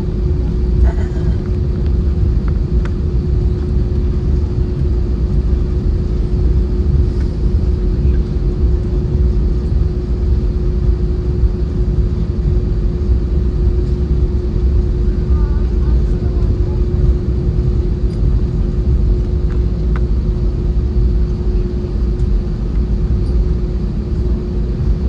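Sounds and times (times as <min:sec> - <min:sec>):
constant cabin hum: 0:00.0 - 0:25.0
jet engine cabin rumble: 0:00.0 - 0:25.0.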